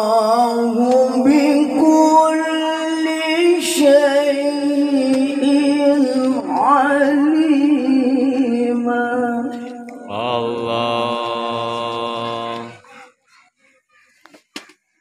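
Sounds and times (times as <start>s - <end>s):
man reciting in a high voice: 0.0s - 14.1s.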